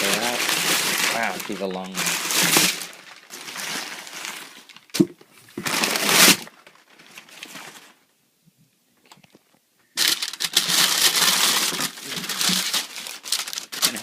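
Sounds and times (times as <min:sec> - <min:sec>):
packaging crinkling and rustling: 0:00.0 - 0:08.1, 0:10.0 - 0:14.0.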